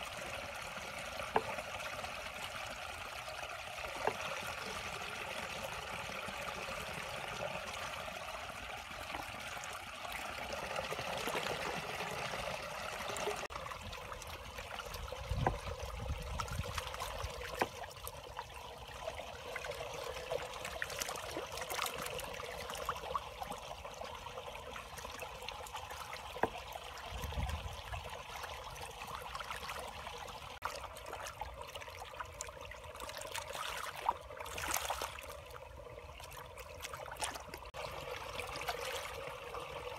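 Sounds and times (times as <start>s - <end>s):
shallow water trickling: 0.0s - 39.9s.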